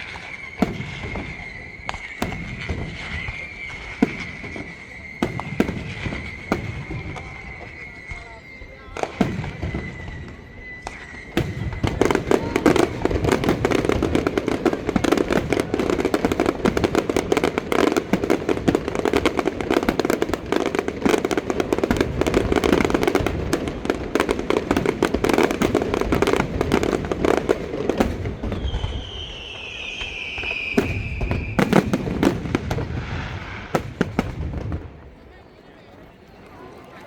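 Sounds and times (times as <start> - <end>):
firework bangs: 0.0 - 35.5
fireworks crackling barrage: 0.0 - 37.0.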